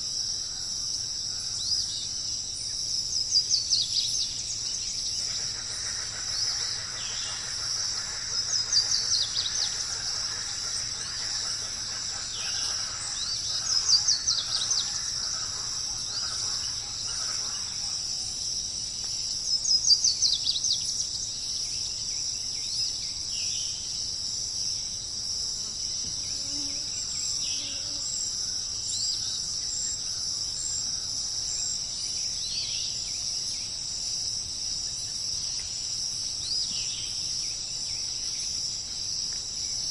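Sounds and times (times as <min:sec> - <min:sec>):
chirring insect chorus: 0:00.0 - 0:39.9.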